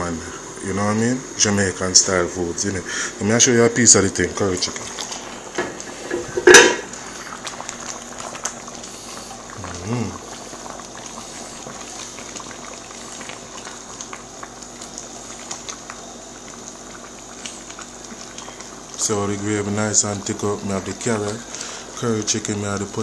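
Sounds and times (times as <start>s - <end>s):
gravy bubbling in a pot: 0.0s - 23.0s.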